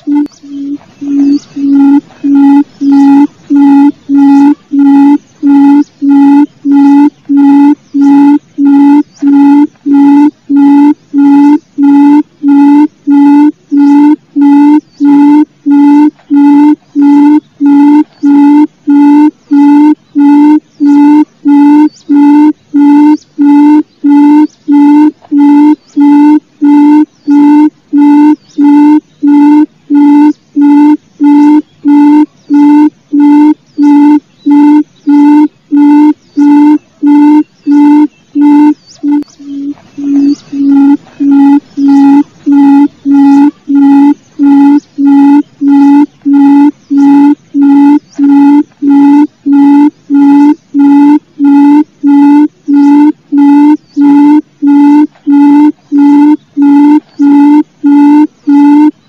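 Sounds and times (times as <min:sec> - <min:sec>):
bird hooting call: 0:00.0 - 0:59.0.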